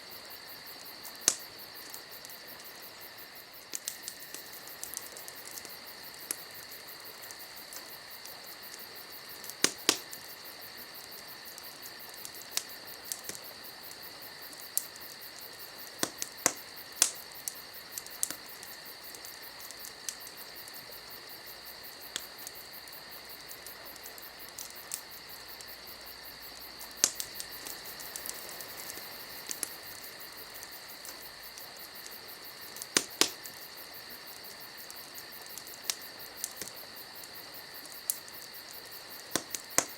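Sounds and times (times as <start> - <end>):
steady high hiss: 0.0 - 39.9
wood fire crackling: 0.0 - 39.9.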